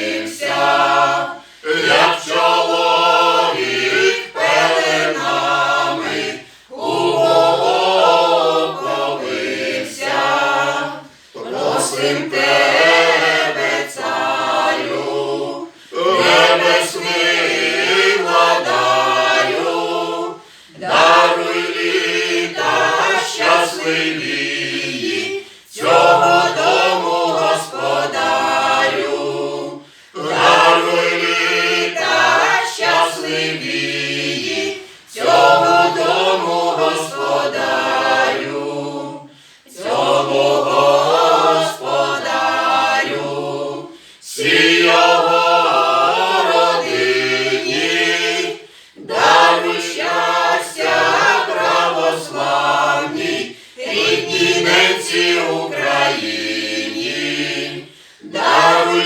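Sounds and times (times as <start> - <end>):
group singing unaccompanied carol: 0.0 - 59.0.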